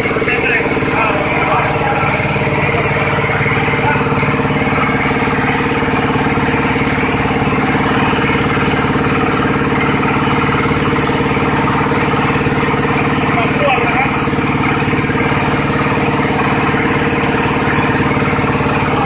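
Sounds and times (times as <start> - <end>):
small engine running steadily: 0.0 - 19.0.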